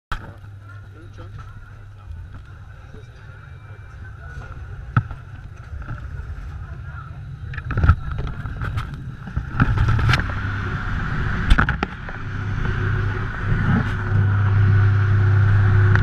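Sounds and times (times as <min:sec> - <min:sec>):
conveyor mechanical rumble: 0:00.1 - 0:16.0.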